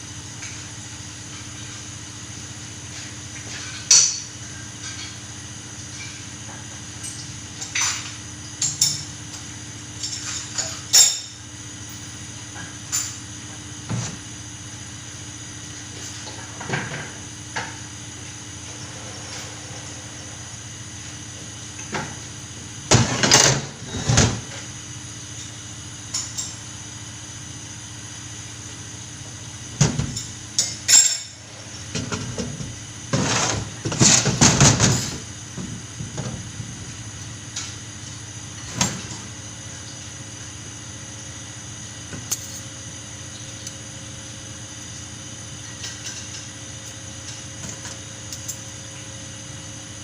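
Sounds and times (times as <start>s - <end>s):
steady background hum: 0.0s - 50.0s.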